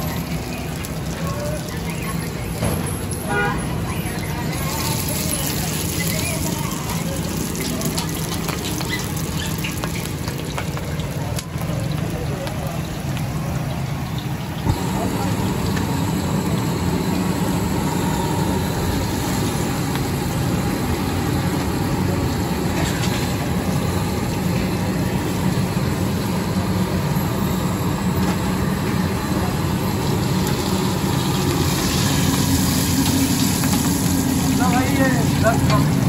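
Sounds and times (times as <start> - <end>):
oil sizzling on iron griddle: 0.0 - 36.0.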